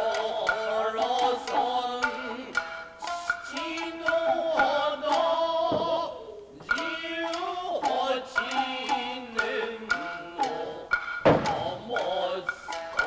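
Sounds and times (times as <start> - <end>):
person singing with vibrato: 0.0 - 13.0
plucked shamisen notes: 0.0 - 13.0.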